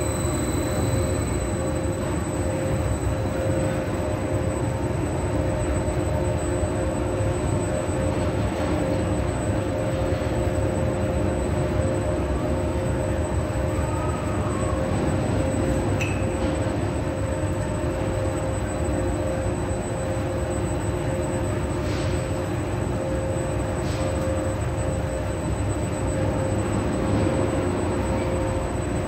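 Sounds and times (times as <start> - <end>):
hoist machinery drone: 0.0 - 29.0.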